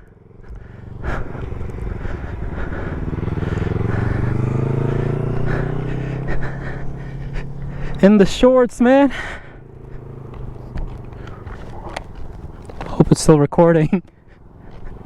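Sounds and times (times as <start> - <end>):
motorcycle engine pulling away: 0.0 - 13.2, 14.2 - 15.0.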